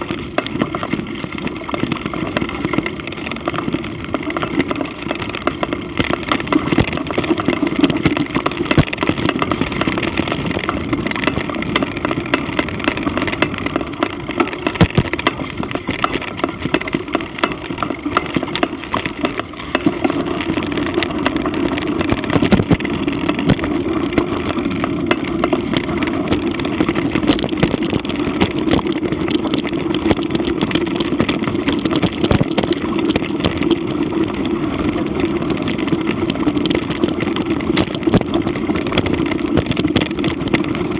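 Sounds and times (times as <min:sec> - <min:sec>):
bike clicks and rattles: 0:00.0 - 0:40.9
bike tyres rolling on a trail: 0:00.0 - 0:40.9.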